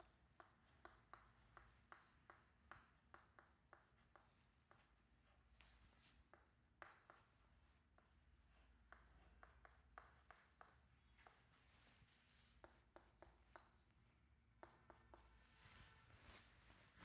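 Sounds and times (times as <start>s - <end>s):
pen tapping strokes writing: 0.0s - 15.4s.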